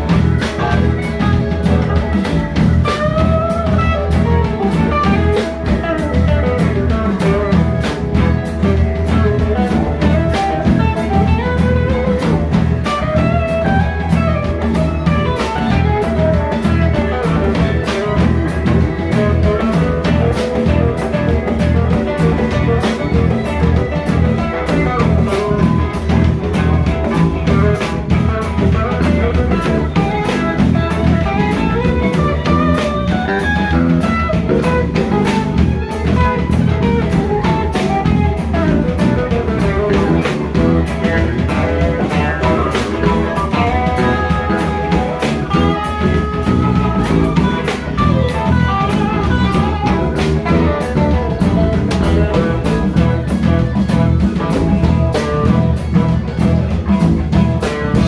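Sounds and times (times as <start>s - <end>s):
drum kit beat: 0.0s - 58.0s
electric guitar lead line: 0.0s - 58.0s.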